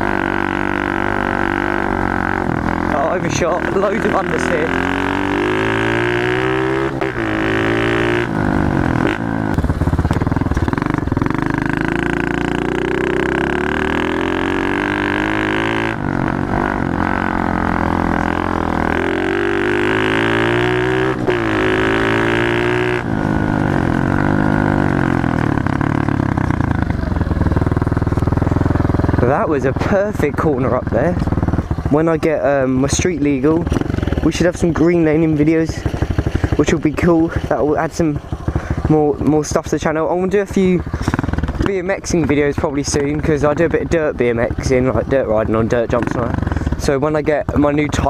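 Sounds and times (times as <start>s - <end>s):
pit bike engine revving: 0.0s - 48.0s.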